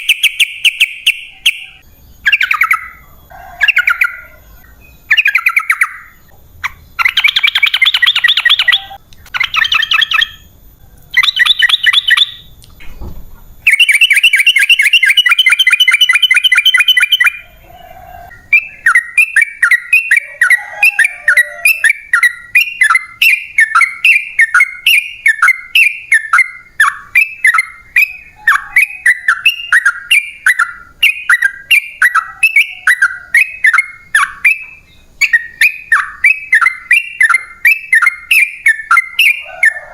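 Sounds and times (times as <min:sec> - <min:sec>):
bulbul song trills: 0:00.0 - 0:12.7, 0:13.6 - 0:39.9.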